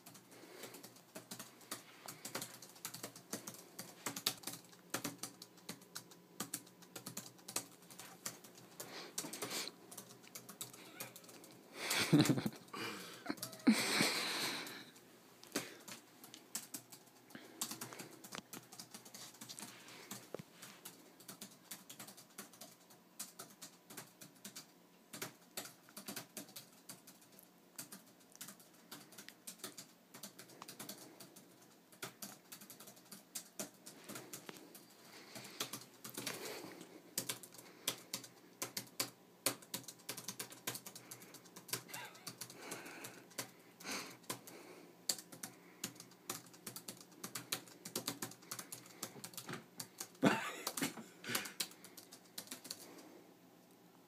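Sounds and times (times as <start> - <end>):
typing on computer keyboard: 0.0 - 12.7, 14.8 - 43.6, 44.2 - 53.0.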